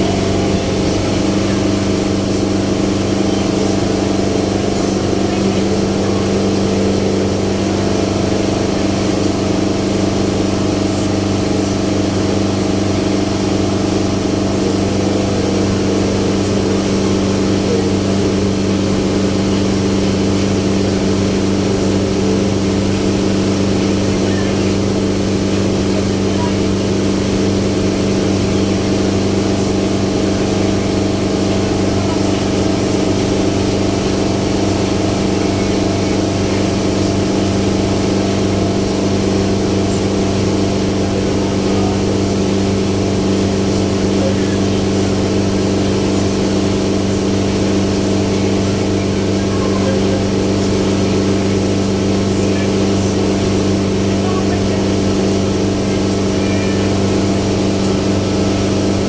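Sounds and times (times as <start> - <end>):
ferry engine droning: 0.0 - 59.0.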